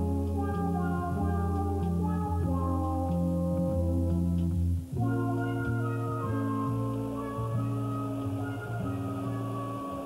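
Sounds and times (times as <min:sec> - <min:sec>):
music of slow held notes: 0:00.0 - 0:10.0.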